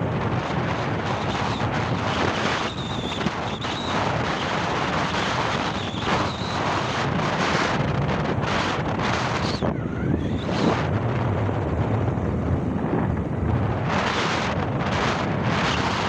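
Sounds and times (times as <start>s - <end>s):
vehicle road noise: 0.0s - 16.0s
wind buffeting microphone: 0.0s - 16.0s.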